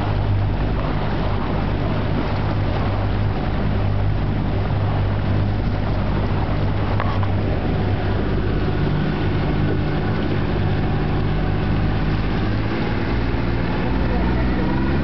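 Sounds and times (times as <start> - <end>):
boat engine running: 0.0 - 15.0
water wash: 0.0 - 15.0.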